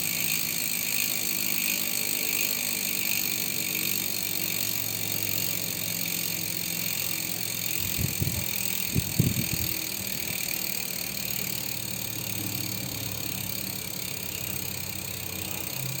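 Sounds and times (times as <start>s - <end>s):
bicycle hub freewheel buzzing: 0.0s - 16.0s.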